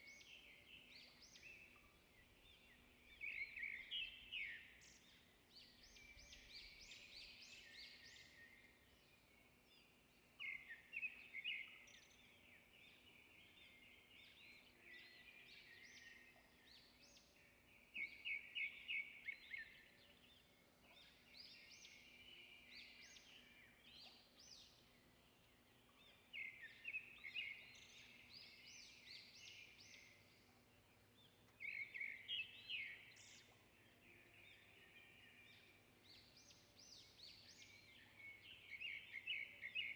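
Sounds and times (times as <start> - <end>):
small birds chirping faintly: 0.0 - 39.9.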